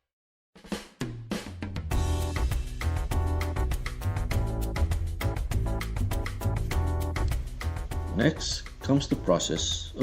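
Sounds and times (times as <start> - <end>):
music with drums and bass: 0.6 - 10.0.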